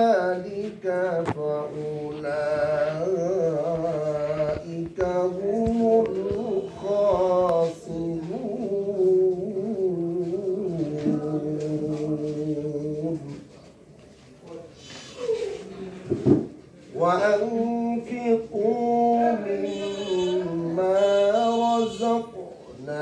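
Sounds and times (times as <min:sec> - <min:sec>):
man chanting melodically: 0:00.0 - 0:13.5, 0:16.9 - 0:23.0.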